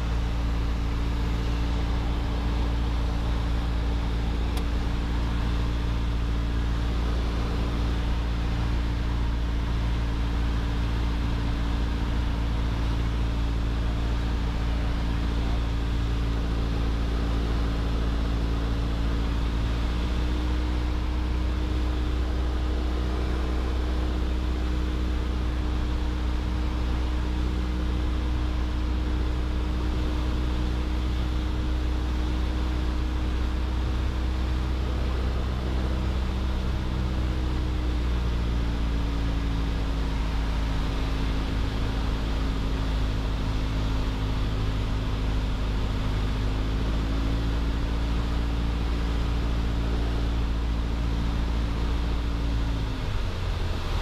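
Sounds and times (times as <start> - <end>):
aircraft engine and propeller drone: 0.0 - 54.0.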